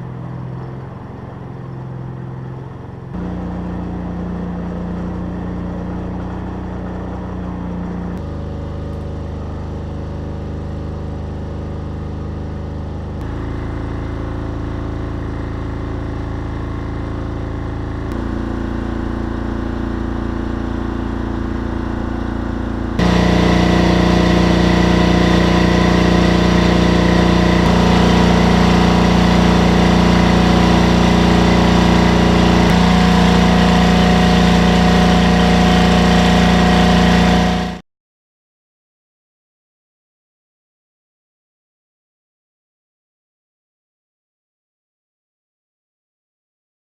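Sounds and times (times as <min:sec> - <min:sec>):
generator engine running: 0:00.0 - 0:37.8.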